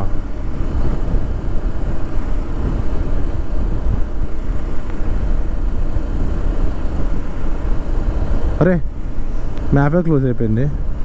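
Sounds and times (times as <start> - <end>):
motorcycle engine: 0.0 - 11.0
road rumble: 0.0 - 11.0
wind buffeting microphone: 0.0 - 11.0.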